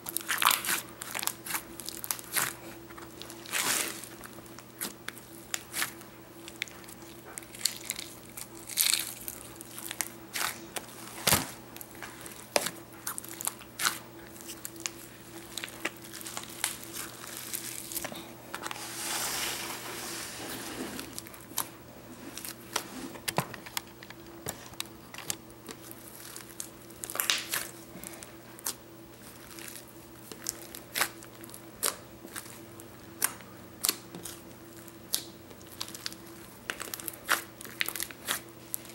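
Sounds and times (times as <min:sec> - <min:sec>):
hands squishing slime: 0:00.0 - 0:18.8, 0:25.6 - 0:38.9.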